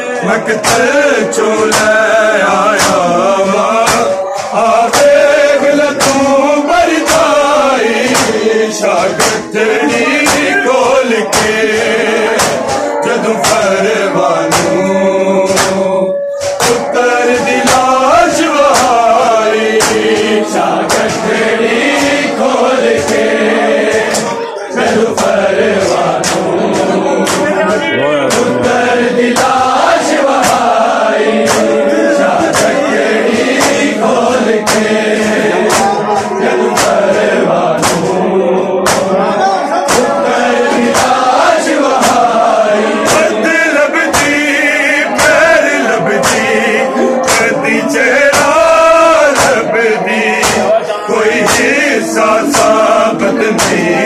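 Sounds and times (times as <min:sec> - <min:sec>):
men chanting together: 0:00.0 - 0:54.0
hands slapping chests: 0:00.6 - 0:27.7, 0:28.3 - 0:39.2, 0:39.9 - 0:54.0.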